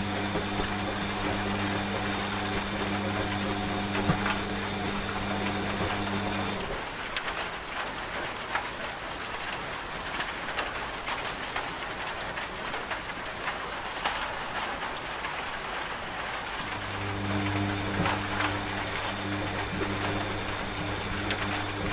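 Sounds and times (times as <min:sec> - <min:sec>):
raindrops ticking on hard surface: 0:00.0 - 0:21.9
steady rain falling: 0:00.0 - 0:21.9.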